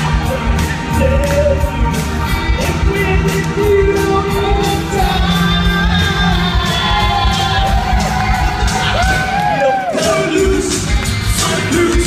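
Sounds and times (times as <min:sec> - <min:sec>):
rock and roll music with singing: 0:00.0 - 0:12.0
steady drum beat: 0:00.0 - 0:12.0.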